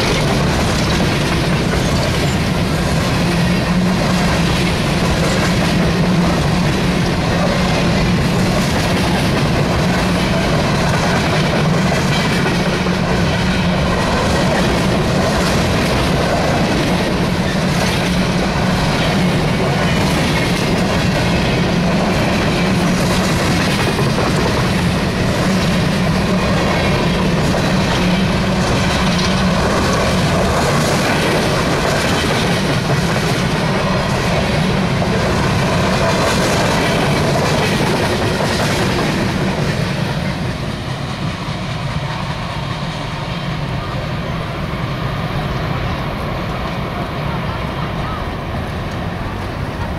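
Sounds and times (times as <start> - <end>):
wheels clicking over rail joints: 0.0 - 41.2
train cars rumbling past: 0.0 - 49.9.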